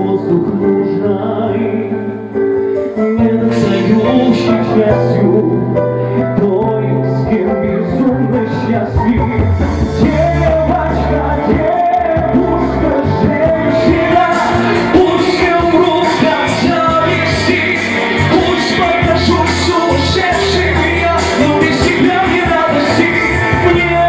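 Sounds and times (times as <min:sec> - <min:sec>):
karaoke pop backing track: 0:00.0 - 0:24.0
person singing: 0:00.0 - 0:24.0.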